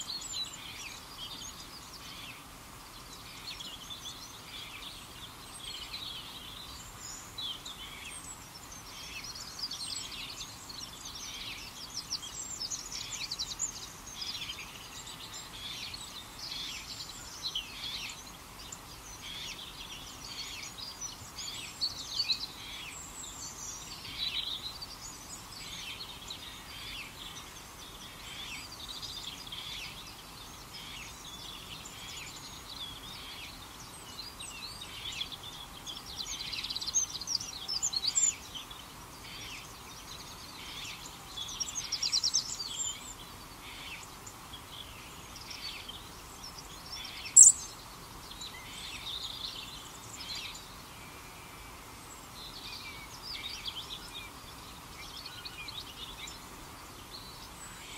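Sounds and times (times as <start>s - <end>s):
birds chirping and singing: 3.2s - 57.9s.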